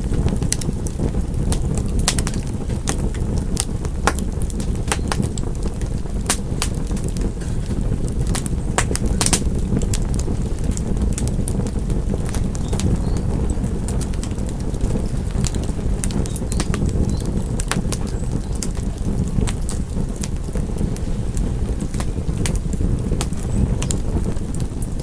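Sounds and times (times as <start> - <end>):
fireplace fire crackling: 0.0 - 25.0
sharp pops of fire: 0.0 - 25.0.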